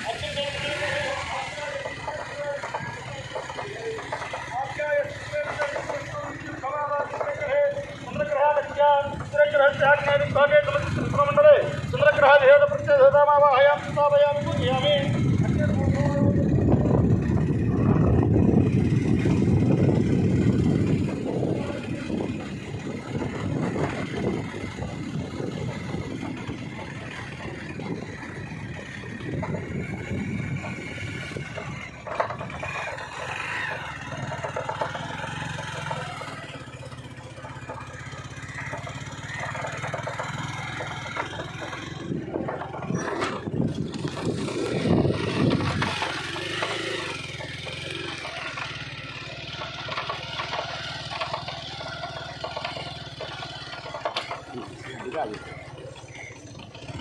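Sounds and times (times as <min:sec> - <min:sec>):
outdoor noise: 0:00.0 - 0:57.0
vehicle engine running: 0:00.0 - 0:57.0.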